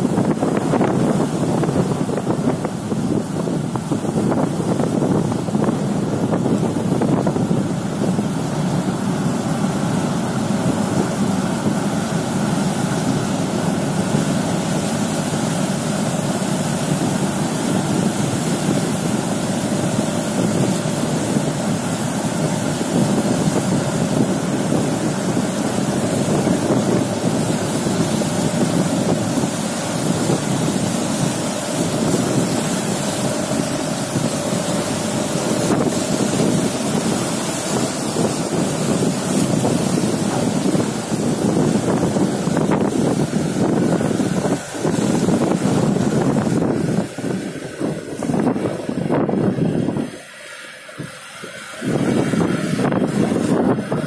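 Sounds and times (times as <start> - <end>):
wind buffeting microphone: 0.0 - 50.3, 50.9 - 54.0
ship engines churning: 0.0 - 54.0.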